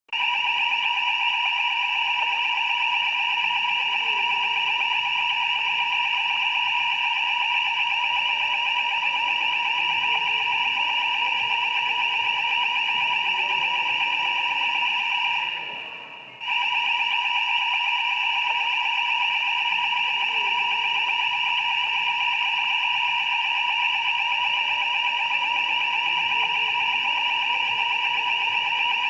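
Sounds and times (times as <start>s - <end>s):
fire alarm high-pitched tone: 0.1s - 29.0s.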